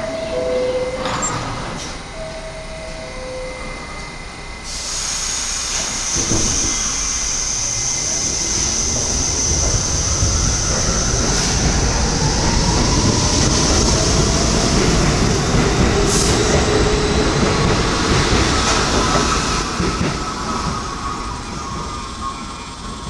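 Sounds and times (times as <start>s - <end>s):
subway train wheels clattering: 0.0s - 23.0s.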